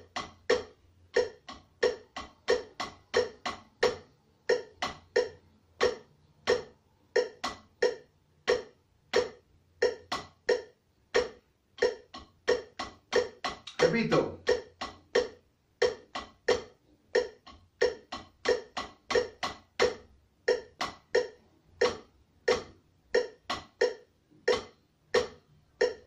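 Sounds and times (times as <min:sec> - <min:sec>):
drumsticks striking practice pad: 0:00.0 - 0:26.0.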